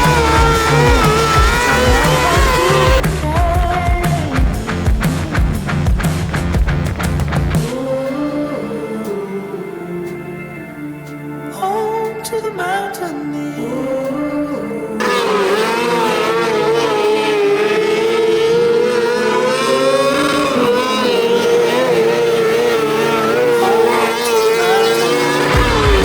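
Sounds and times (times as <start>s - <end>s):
race car engines: 0.0s - 10.7s, 11.5s - 26.0s
music: 0.0s - 15.4s, 18.1s - 26.0s.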